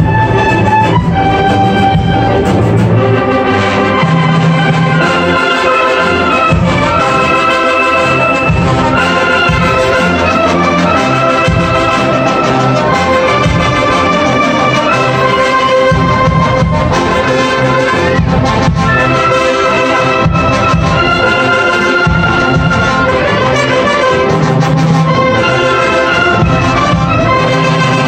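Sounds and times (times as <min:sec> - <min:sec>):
orchestral music with held notes: 0:00.0 - 0:28.0.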